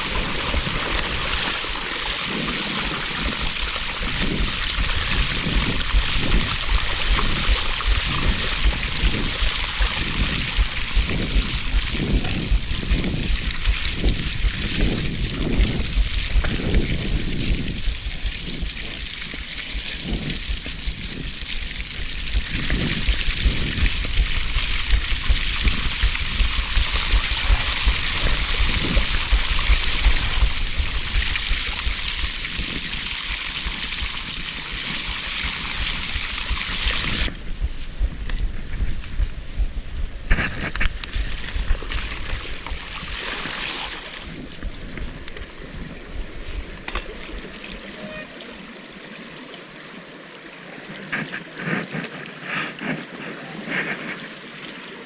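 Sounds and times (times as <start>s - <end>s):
bike tyres hissing through puddles: 0.0s - 37.6s, 38.5s - 55.0s
wind rumble on microphone: 0.0s - 48.2s.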